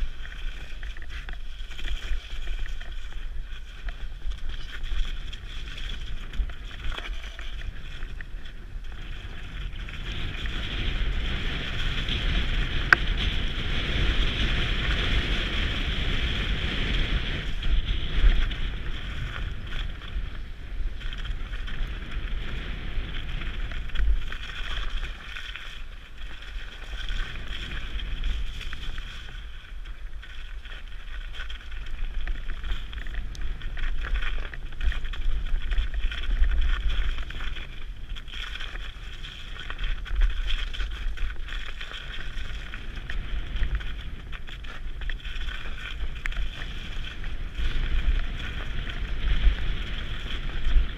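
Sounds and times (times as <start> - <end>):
bike tyres on muddy trail: 0.0 - 50.9
wind rushing over camera: 0.0 - 50.9.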